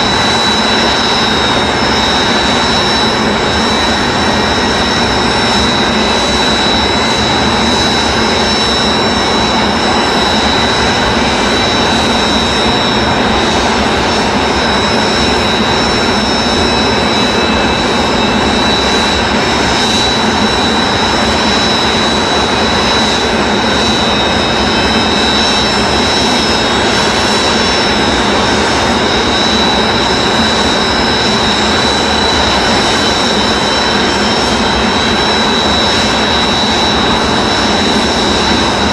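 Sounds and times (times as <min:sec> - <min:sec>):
jet engines idling: 0:00.0 - 0:38.9.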